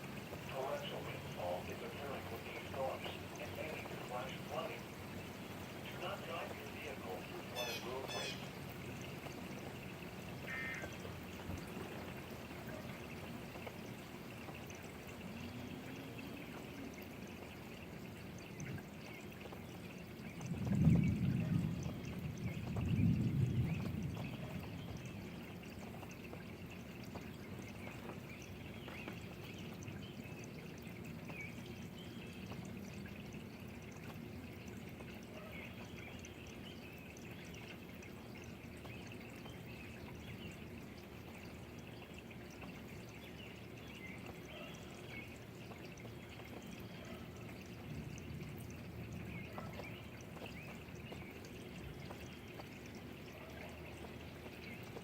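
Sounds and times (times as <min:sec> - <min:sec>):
steady rain: 0:00.0 - 0:55.0
water trickling and dripping: 0:00.0 - 0:55.0.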